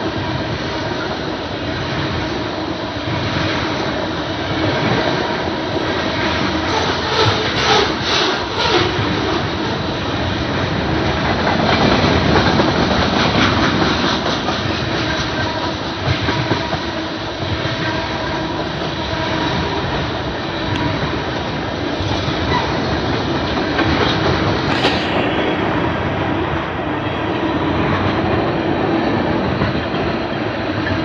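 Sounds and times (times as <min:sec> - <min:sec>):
freight train wheels on rails: 0:00.0 - 0:31.0.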